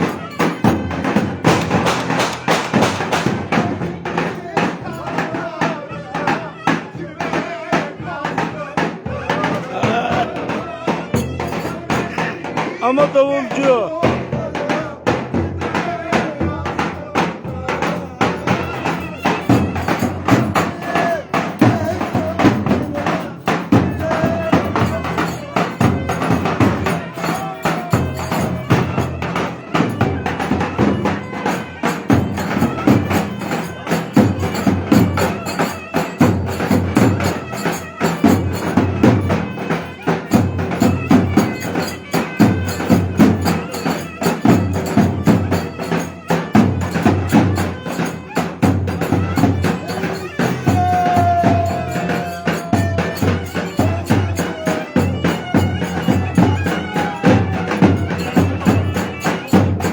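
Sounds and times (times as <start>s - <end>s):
fast drum beat: 0.0s - 59.9s.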